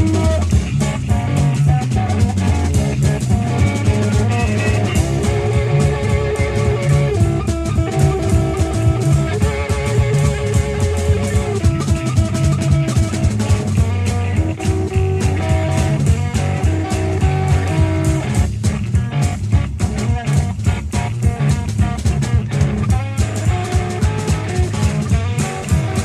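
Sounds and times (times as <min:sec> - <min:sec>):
drum kit playing: 0:00.0 - 0:26.0
electric guitar held notes: 0:00.0 - 0:26.0.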